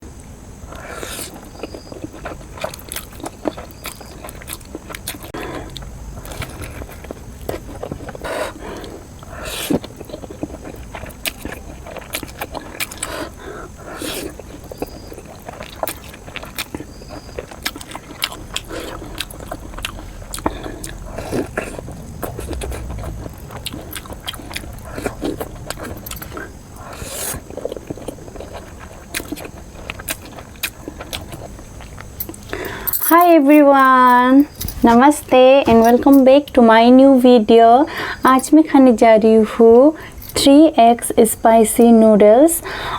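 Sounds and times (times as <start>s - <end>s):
wet chewing clicks and smacks: 0.7s - 36.6s.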